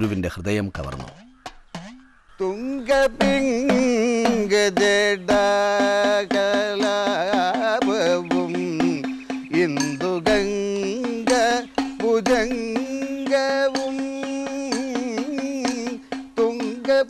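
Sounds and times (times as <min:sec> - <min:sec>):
man singing held notes: 0:02.4 - 0:17.0
hourglass drum strokes: 0:02.8 - 0:17.0.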